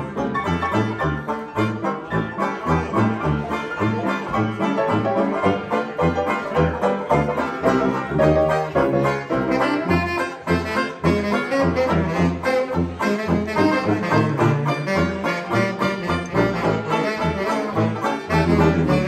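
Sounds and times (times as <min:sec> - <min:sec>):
banjo chords: 0:00.0 - 0:19.0
saxophone melody: 0:00.0 - 0:19.0
tuba bass notes: 0:00.0 - 0:19.0.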